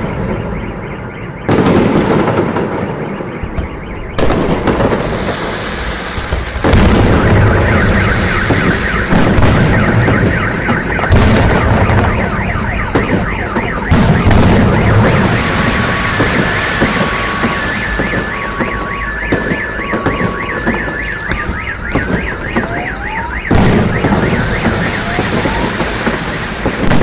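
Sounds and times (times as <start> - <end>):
car alarm siren and beeps: 0.0 - 27.0
fireworks banging: 0.0 - 27.0.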